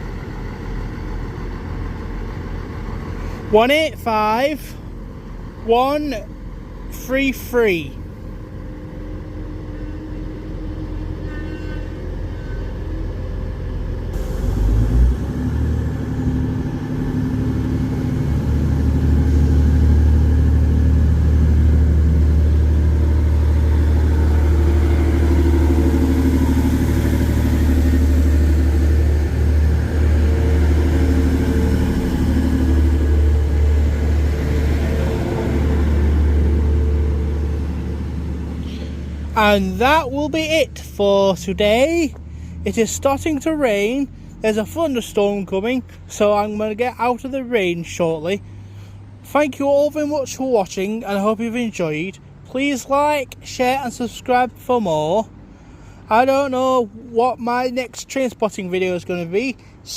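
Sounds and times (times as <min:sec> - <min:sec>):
diesel train engine drone: 0:00.0 - 0:57.5.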